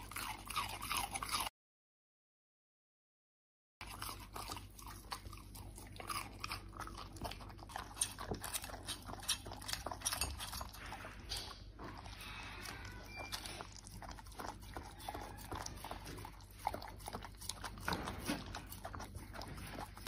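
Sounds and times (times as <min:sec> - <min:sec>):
dog chewing: 0:00.0 - 0:01.5, 0:03.8 - 0:20.0.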